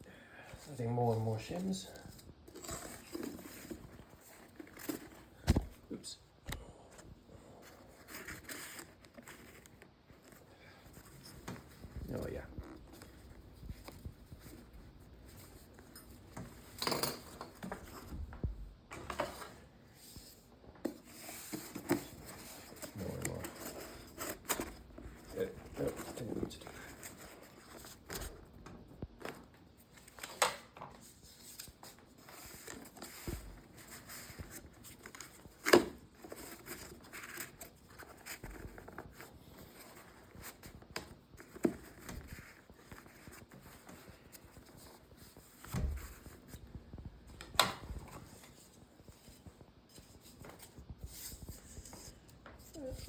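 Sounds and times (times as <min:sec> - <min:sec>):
rustling and scraping: 0:00.4 - 0:06.1, 0:06.9 - 0:53.0.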